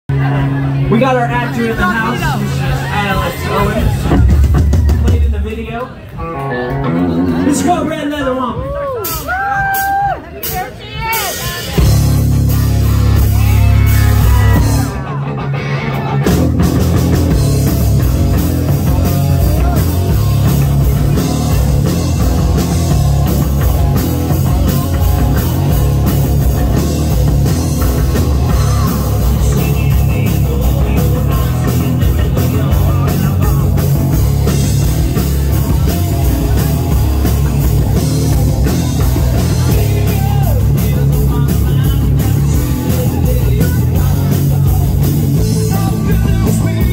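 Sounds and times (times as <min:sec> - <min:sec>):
electric guitar: 0:00.1 - 0:05.2, 0:05.8 - 0:07.9, 0:08.6 - 0:46.9
drum kit beat: 0:01.0 - 0:46.9.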